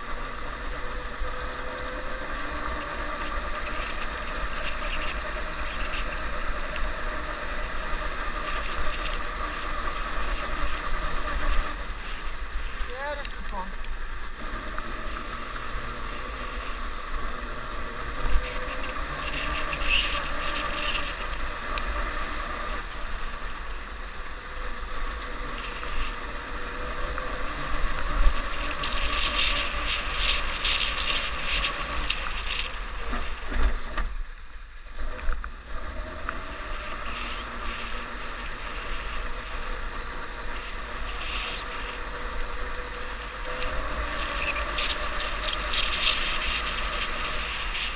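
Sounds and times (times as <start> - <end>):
snowmobile engine running: 0.0 - 34.3, 35.0 - 47.9.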